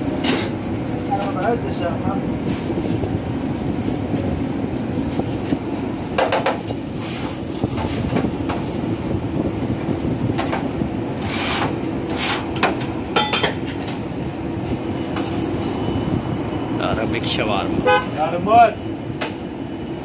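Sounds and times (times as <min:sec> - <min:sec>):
low rumble of commercial kitchen: 0:00.0 - 0:20.0.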